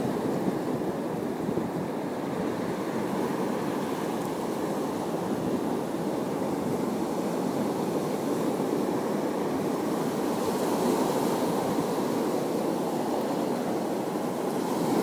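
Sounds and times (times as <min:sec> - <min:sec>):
sea surf on rocky shore: 0:00.0 - 0:15.0.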